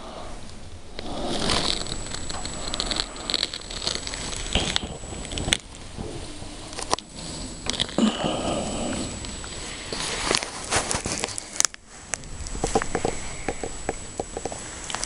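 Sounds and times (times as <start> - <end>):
close-up rustling: 0.0 - 15.0.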